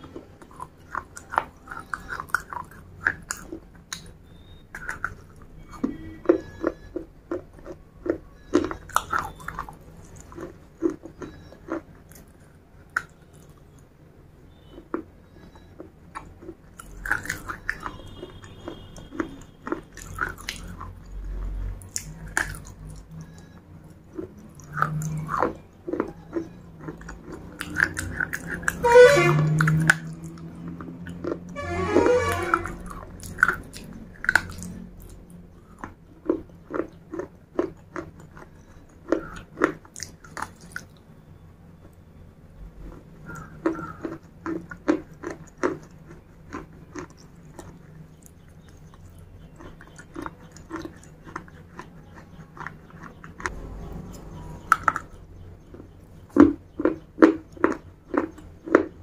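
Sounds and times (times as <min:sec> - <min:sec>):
crunching and chewing clay pieces: 0:00.0 - 0:59.0.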